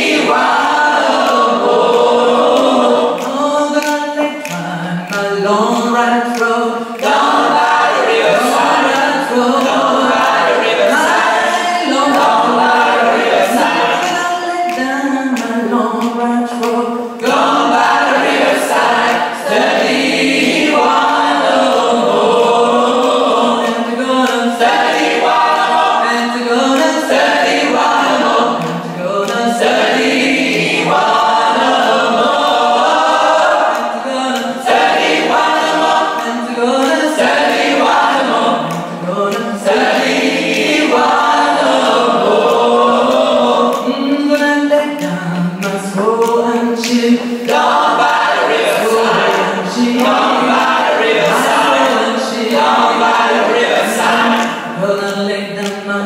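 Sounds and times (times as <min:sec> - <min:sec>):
gospel choir singing a cappella: 0:00.0 - 0:56.0.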